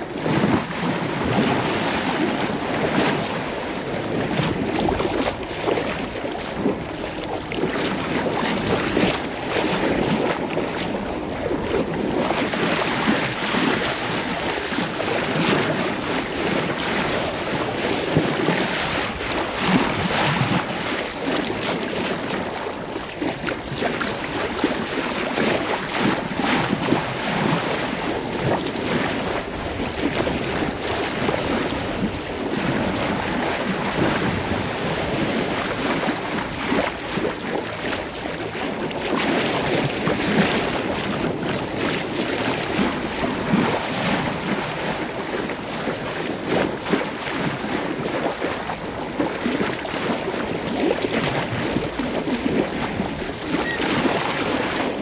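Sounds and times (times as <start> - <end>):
sea waves: 0.0 - 55.0
wind buffeting microphone: 0.0 - 55.0.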